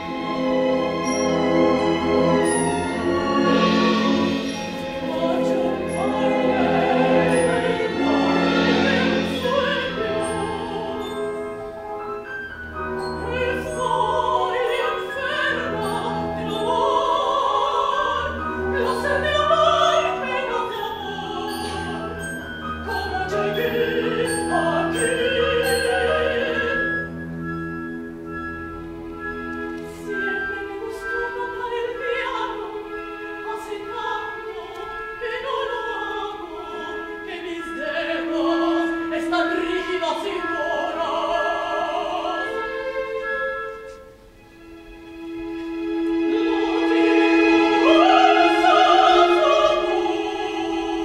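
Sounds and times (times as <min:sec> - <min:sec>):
opera singer with vibrato: 0:00.0 - 0:11.9, 0:12.6 - 0:27.2, 0:29.6 - 0:44.2, 0:45.2 - 0:51.0
orchestra holding chords: 0:00.0 - 0:51.0.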